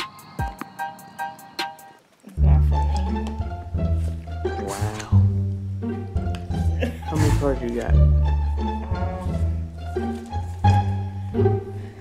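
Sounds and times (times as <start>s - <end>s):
low bowed strings music: 2.3s - 12.0s.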